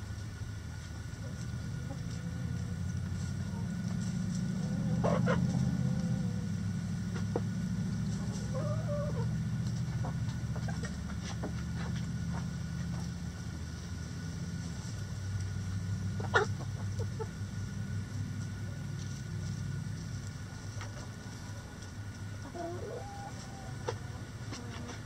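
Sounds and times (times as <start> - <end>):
steady low hum: 0.0 - 25.0
hens clucking: 0.5 - 13.6, 14.6 - 25.0
drawn-out rising and falling call: 1.2 - 17.6, 20.6 - 25.0.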